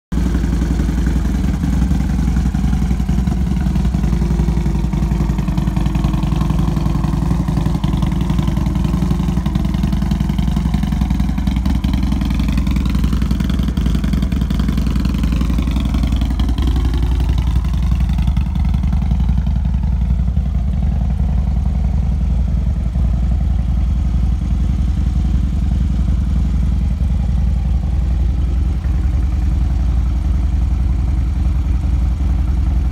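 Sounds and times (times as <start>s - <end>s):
motorcycle engine idling: 0.1s - 32.9s.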